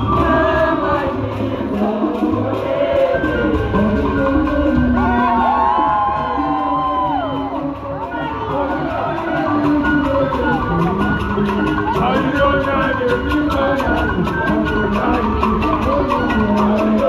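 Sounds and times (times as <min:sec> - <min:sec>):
crowd: 0:00.0 - 0:17.0
person singing: 0:00.0 - 0:17.0.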